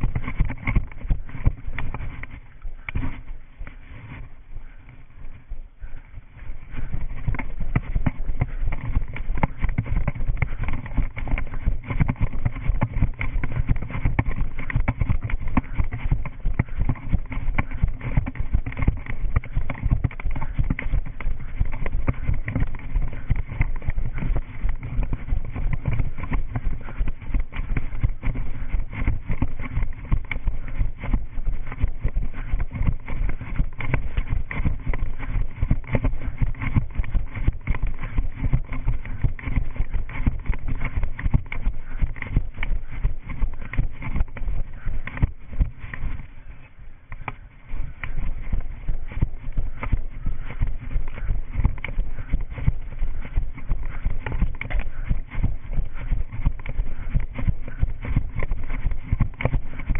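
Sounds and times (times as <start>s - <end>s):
running footsteps on concrete: 0.0s - 59.9s.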